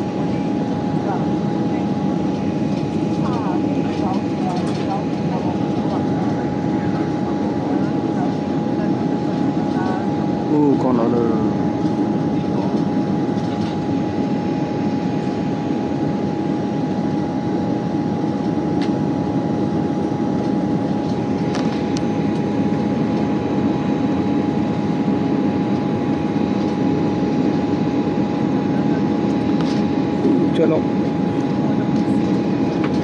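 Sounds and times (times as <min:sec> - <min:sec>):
airliner cabin engine rush: 0:00.0 - 0:33.0
steady whine: 0:00.0 - 0:33.0.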